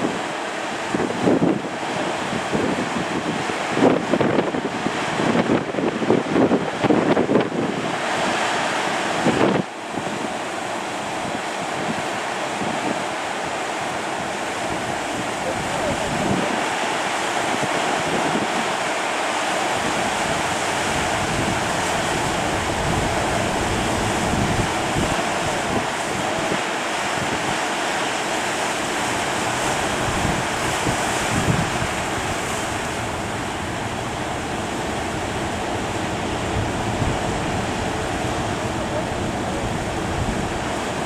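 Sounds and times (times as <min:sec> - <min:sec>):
ocean surf breaking: 0:00.0 - 0:41.0
wind on microphone: 0:00.0 - 0:41.0.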